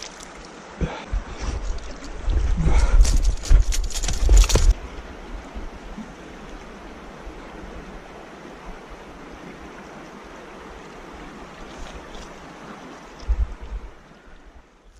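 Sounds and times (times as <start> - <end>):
rushing water: 0.0 - 14.9
wind: 0.0 - 14.9.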